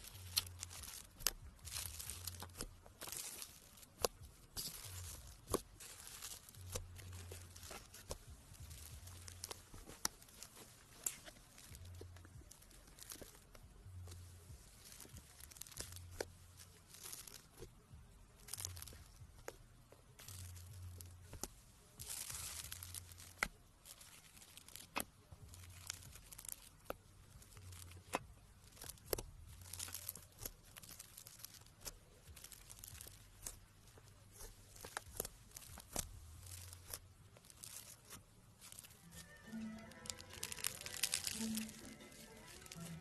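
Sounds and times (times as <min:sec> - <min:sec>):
soft rustling bursts: 0:00.0 - 0:43.0.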